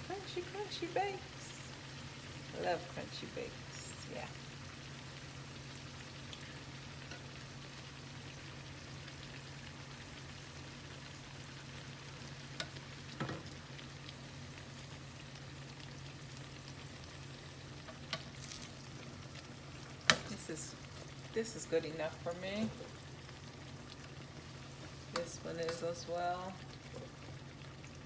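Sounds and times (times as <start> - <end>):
dough sizzling in hot oil: 0.0 - 28.0.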